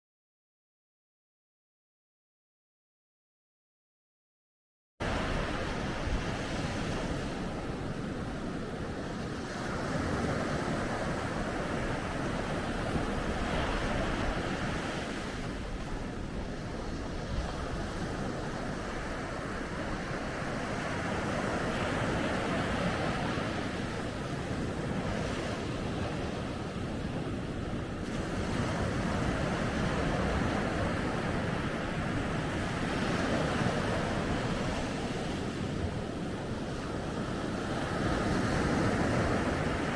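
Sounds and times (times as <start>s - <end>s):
sea waves washing onto a beach: 5.0s - 39.9s.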